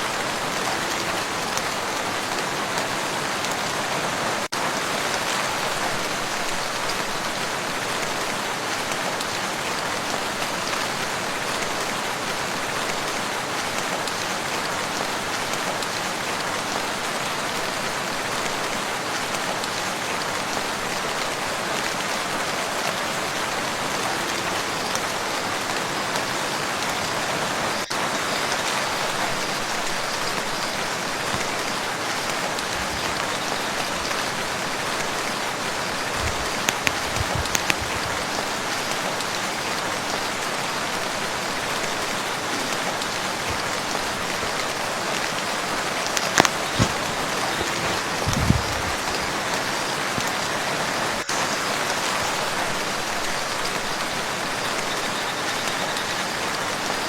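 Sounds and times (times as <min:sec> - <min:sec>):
rain falling on a lake: 0:00.0 - 0:57.0.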